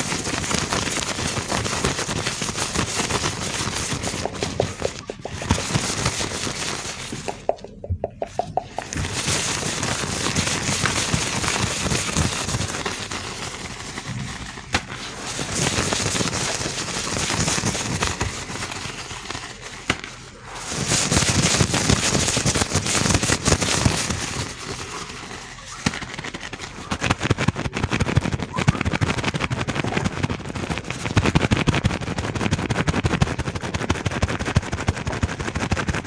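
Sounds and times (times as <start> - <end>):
gloved hands rubbing: 0.0 - 36.0.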